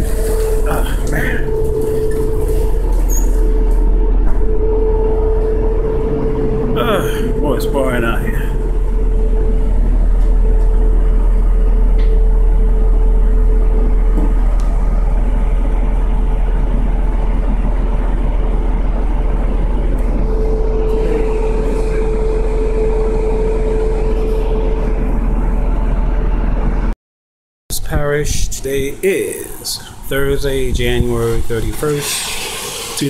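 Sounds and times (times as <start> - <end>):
bus diesel engine droning: 0.0 - 26.9
steady whine: 0.0 - 27.0, 27.7 - 33.0.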